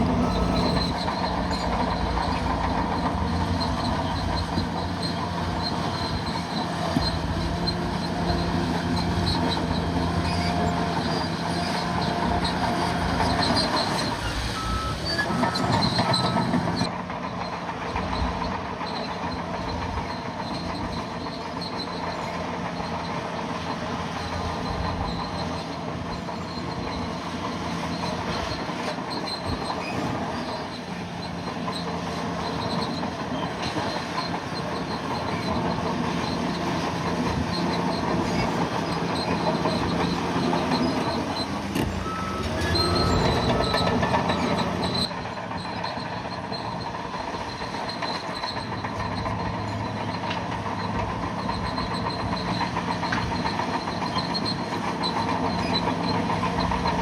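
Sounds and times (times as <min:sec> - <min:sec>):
bulldozer diesel engine running: 0:00.0 - 0:57.0
machinery clatter: 0:00.0 - 0:57.0.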